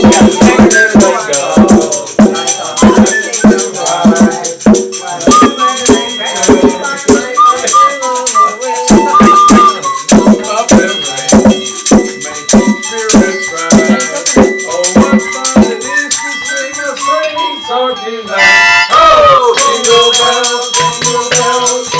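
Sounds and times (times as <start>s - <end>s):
christmas music with shaken bells: 0.0s - 21.9s
instrumental christmas music: 0.0s - 21.9s.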